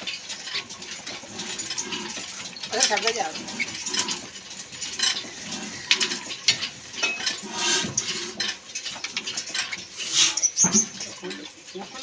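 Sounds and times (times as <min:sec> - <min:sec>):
metal parts clinking: 0:00.0 - 0:12.0.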